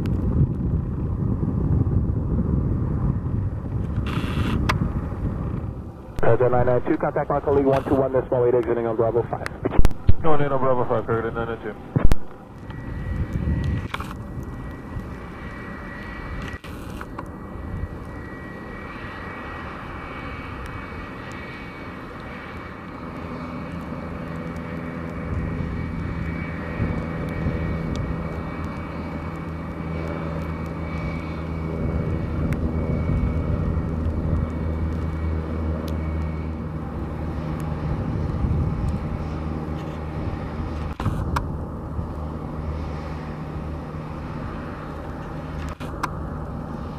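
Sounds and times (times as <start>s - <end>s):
jet engines whining at low power: 0.0s - 46.9s
low hum: 0.0s - 46.9s.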